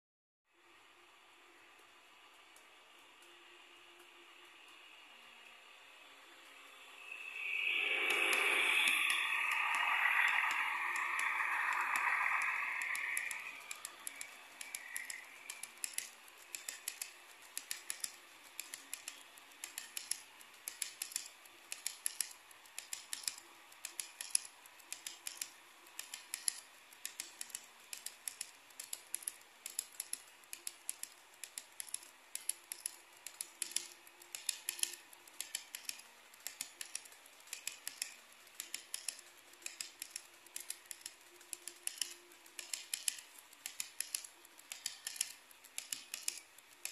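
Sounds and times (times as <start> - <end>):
model locomotives passing: 0.7 - 46.9
model train wheels clicking on rails: 1.3 - 46.9.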